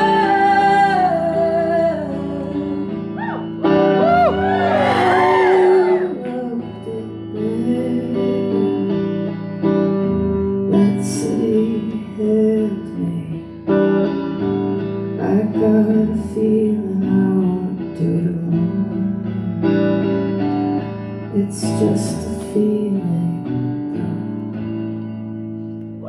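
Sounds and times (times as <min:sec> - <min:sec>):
woman singing: 0:00.0 - 0:09.6, 0:10.7 - 0:14.1, 0:15.2 - 0:20.6, 0:21.2 - 0:24.7
guitar playing: 0:00.0 - 0:26.0.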